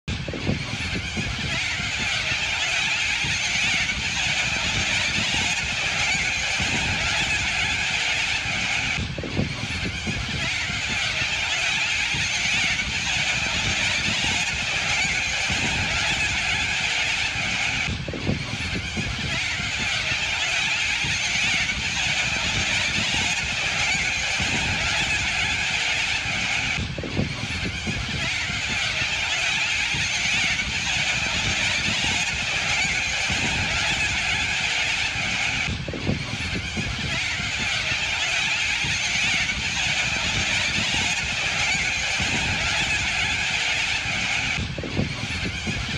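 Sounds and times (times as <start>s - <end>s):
flock of cockatoos screeching: 0.1s - 45.9s.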